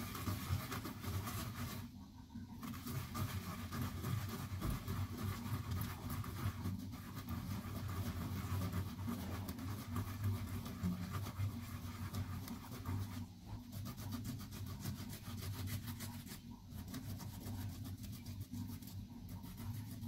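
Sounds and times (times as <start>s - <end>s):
ginger rasping on grater: 0.0s - 1.9s, 2.6s - 20.0s.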